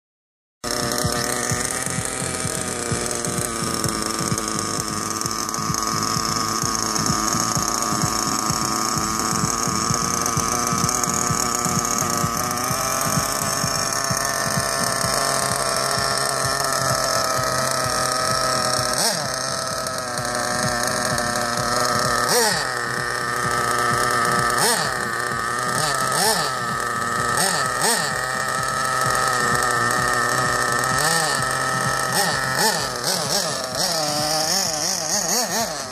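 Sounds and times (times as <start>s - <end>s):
small nitro engine idling: 0.6s - 35.9s.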